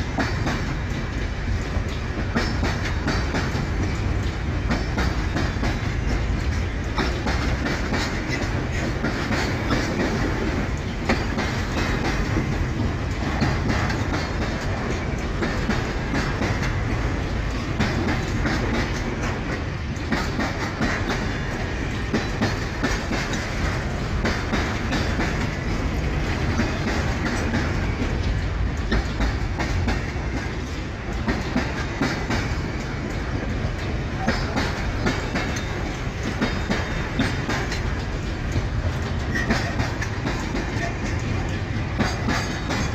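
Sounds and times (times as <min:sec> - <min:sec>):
wheels clicking over rail joints: 0:00.0 - 0:42.9.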